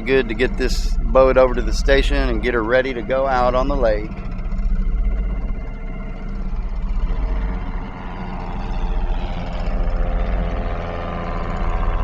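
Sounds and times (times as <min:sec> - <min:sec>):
aircraft taking off: 0:00.0 - 0:12.0
boat engine droning: 0:00.0 - 0:12.0.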